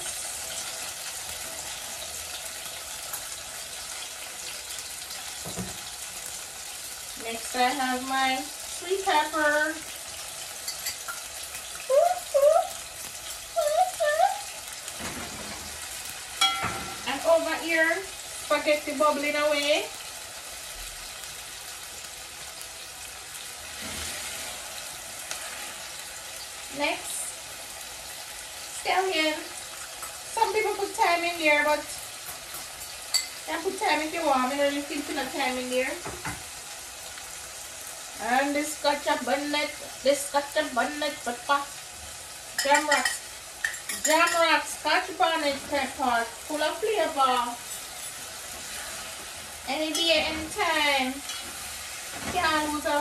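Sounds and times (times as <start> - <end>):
onions and tomatoes sizzling: 0.0 - 53.0.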